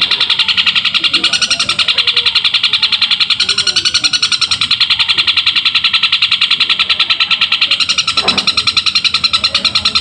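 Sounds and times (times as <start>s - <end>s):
bird chattering song: 0.0s - 10.0s.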